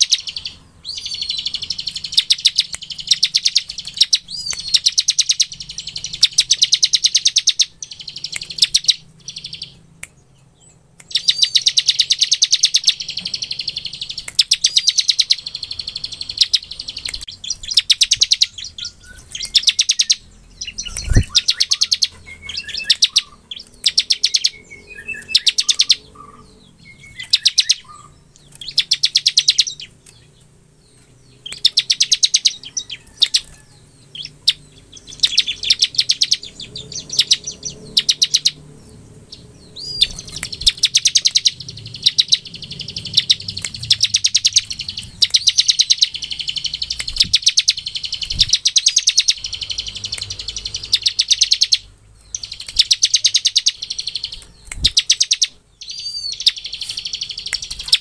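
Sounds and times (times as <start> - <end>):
bird singing fast trills: 0.0 - 58.0.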